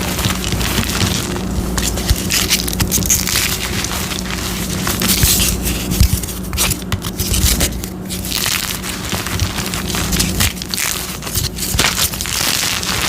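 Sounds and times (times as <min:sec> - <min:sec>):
chalk crunching and crackling: 0:00.0 - 0:13.0.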